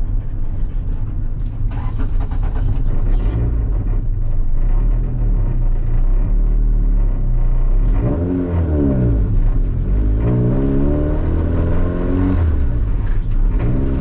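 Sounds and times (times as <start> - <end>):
car engine drone in cabin: 0.0 - 14.0
road noise: 0.0 - 14.0.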